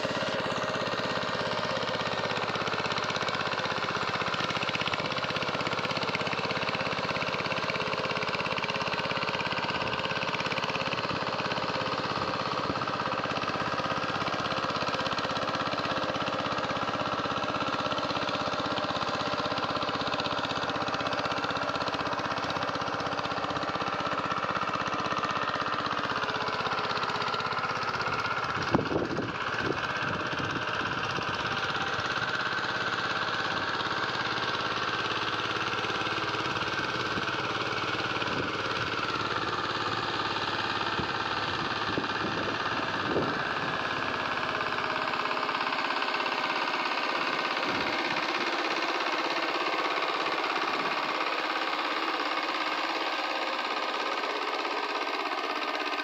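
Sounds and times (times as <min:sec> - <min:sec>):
diesel tiller engine running: 0:00.0 - 0:56.0.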